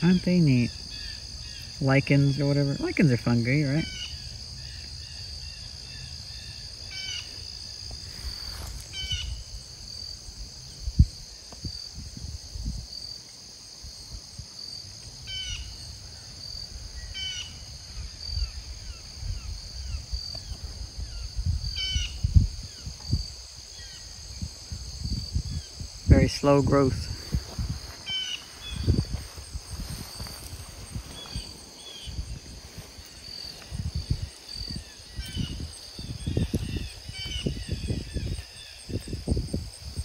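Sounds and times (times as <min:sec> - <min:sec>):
crickets trilling: 0:00.0 - 0:40.0
high insect chirp: 0:00.0 - 0:40.0.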